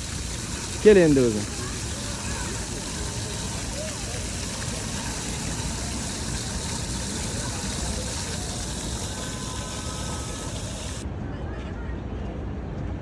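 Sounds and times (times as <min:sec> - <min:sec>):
vehicle engine rumble and hiss: 0:00.0 - 0:11.0.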